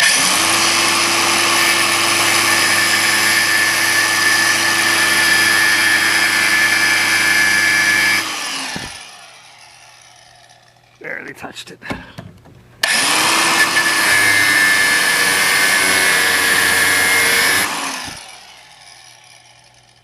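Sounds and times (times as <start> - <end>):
electric grinder whining: 0.0 - 11.0, 12.8 - 20.0.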